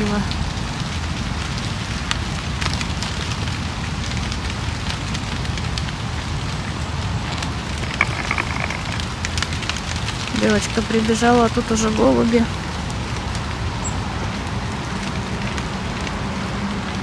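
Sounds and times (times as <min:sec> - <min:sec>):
rain pattering on leaves: 0:00.0 - 0:17.0.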